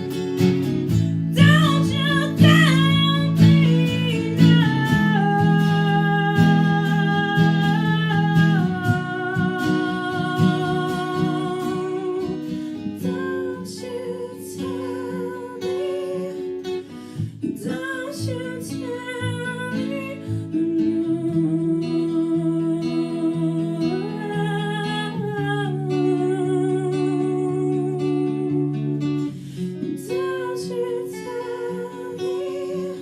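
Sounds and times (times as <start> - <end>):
acoustic guitar strumming: 0.0 - 33.0
person singing: 0.9 - 33.0.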